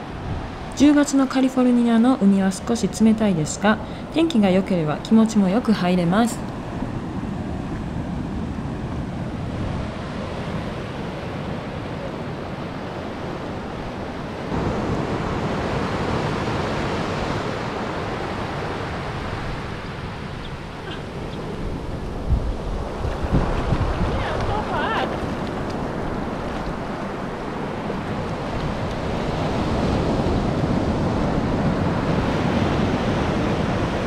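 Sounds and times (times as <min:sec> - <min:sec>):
ocean waves washing ashore: 0:00.0 - 0:34.0
wind buffeting microphone: 0:00.0 - 0:34.0.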